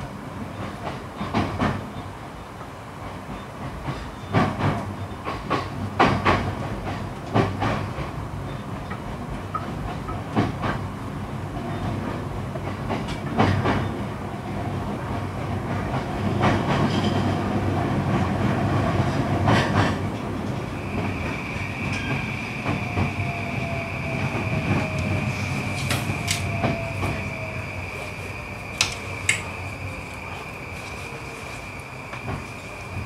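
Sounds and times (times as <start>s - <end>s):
train wheels clicking over joints: 3.3s - 14.1s, 15.0s - 33.0s.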